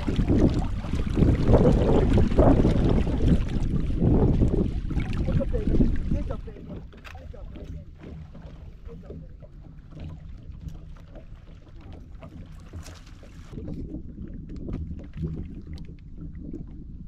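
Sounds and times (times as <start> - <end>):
boat engine rumble: 0.0 - 17.0
wind on microphone: 0.0 - 17.0.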